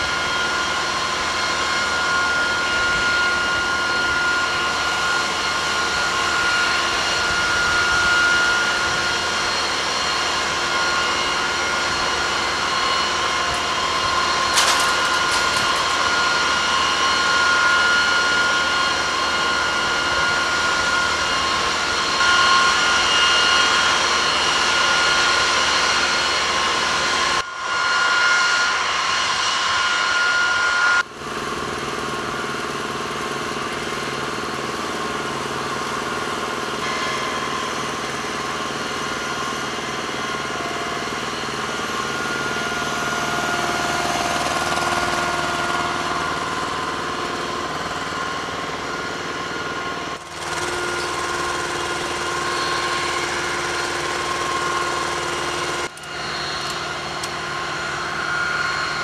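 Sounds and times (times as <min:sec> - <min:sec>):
high steady whining tones: 0:00.0 - 0:59.0.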